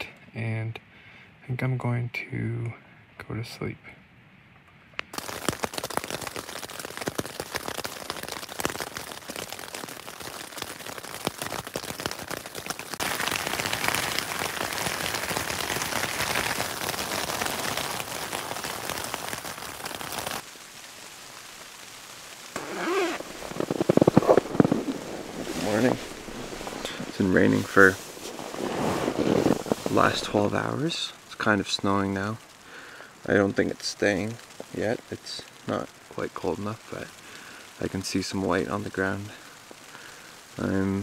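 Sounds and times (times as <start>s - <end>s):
heavy rain pattering on tent: 5.1s - 41.0s.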